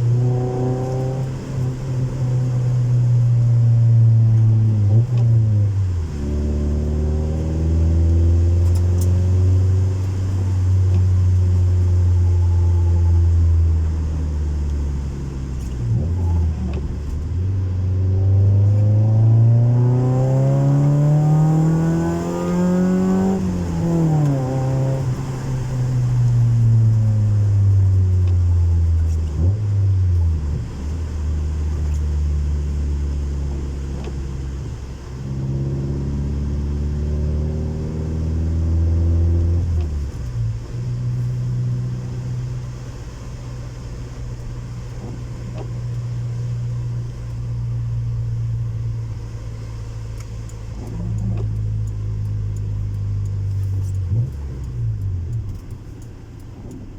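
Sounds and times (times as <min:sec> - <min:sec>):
car engine accelerating: 0:00.0 - 0:56.9.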